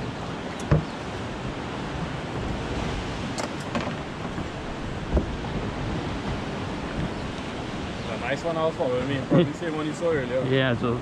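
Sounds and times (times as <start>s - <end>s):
sea noise: 0.0s - 11.0s
wind: 0.0s - 11.0s.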